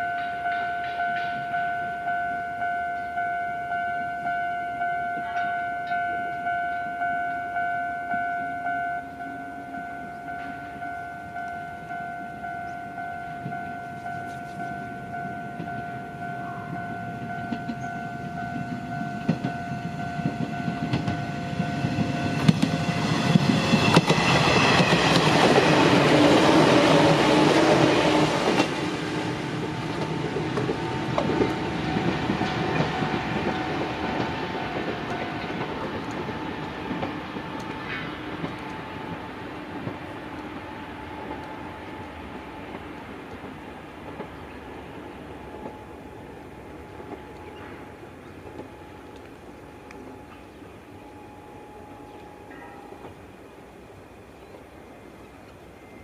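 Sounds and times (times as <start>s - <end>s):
level-crossing alarm ringing: 0.0s - 43.6s, 44.5s - 54.3s
electric train passing: 0.0s - 56.0s.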